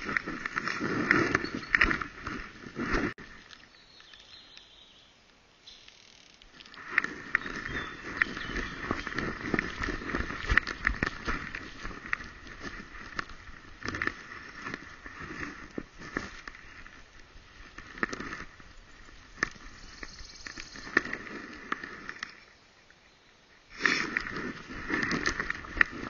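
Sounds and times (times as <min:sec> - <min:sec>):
leaves scraping against camera: 0:00.0 - 0:05.0, 0:05.6 - 0:22.6, 0:23.7 - 0:26.0
rustling through undergrowth: 0:00.0 - 0:26.0.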